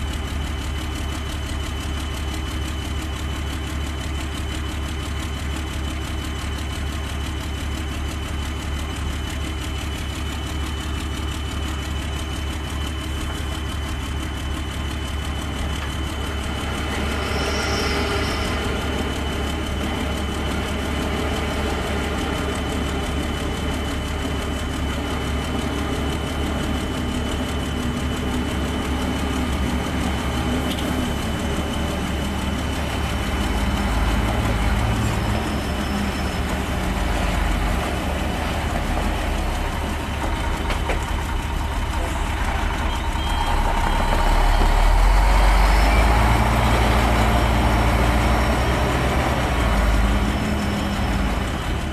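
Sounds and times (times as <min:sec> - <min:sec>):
heavy diesel truck engine: 0:00.0 - 0:51.9.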